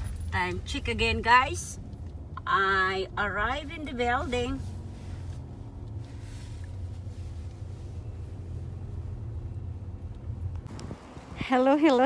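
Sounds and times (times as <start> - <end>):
car engine drone from inside: 0.0 - 11.6.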